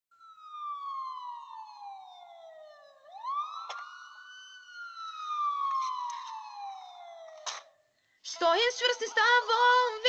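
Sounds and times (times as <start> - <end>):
police siren wailing: 0.1 - 10.0.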